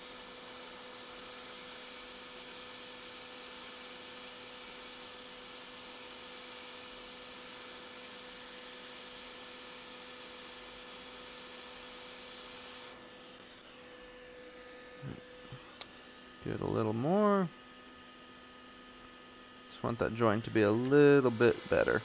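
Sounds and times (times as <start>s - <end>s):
hot air blower hissing: 0.0s - 22.0s.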